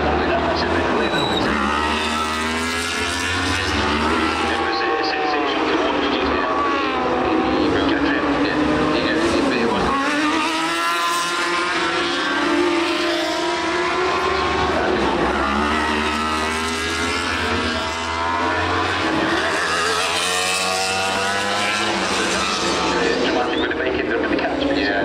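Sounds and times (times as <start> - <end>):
racing motorcycles accelerating past: 1.4 - 23.5.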